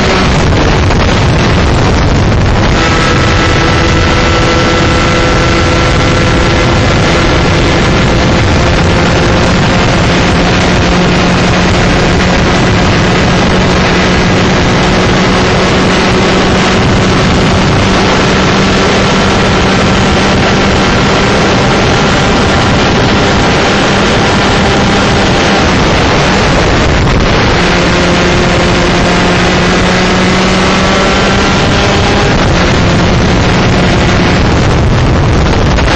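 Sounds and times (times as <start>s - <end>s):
kart engine at high revs: 0.0s - 35.9s
wind buffeting microphone: 0.0s - 35.9s.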